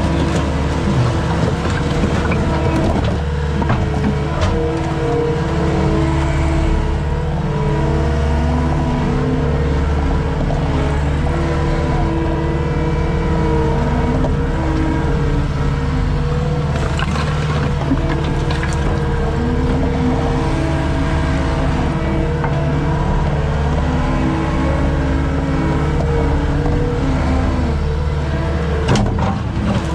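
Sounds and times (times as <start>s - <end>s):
skid steer engine running: 0.0s - 29.9s.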